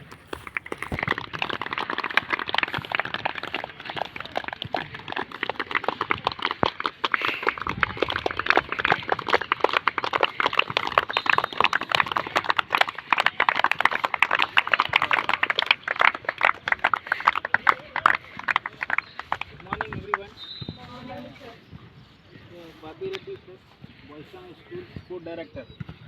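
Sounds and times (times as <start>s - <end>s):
people clapping: 0.0s - 21.2s.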